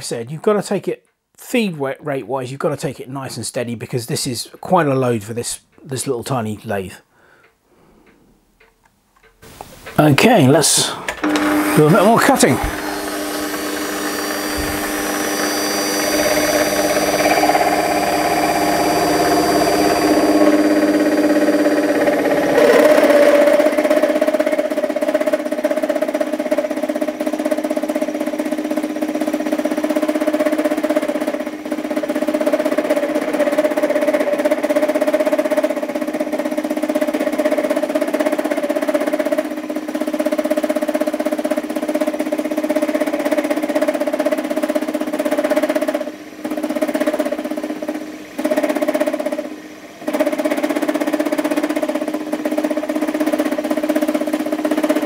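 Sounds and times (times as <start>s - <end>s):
metal cutting noise: 10.2s - 55.0s
lathe motor hum: 10.6s - 55.0s.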